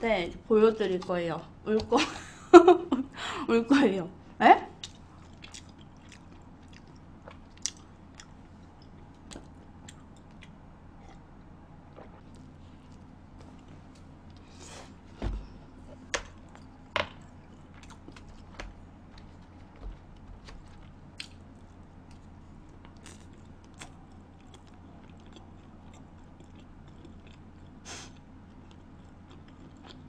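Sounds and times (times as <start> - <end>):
low steady hum: 0.0 - 30.0
person chewing food: 4.8 - 30.0.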